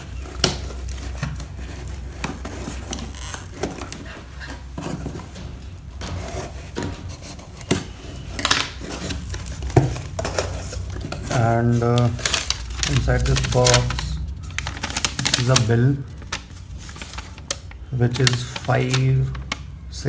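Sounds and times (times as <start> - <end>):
packaging rustling and scraping: 0.0 - 20.0.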